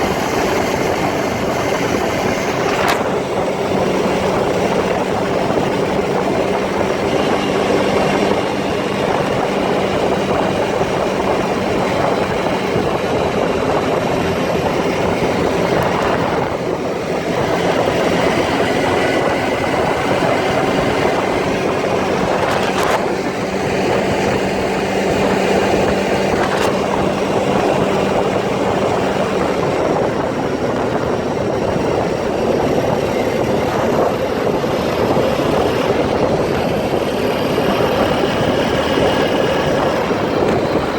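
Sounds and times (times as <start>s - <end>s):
all-terrain vehicle engine running: 0.0s - 40.9s
road and wind rumble: 0.0s - 40.9s.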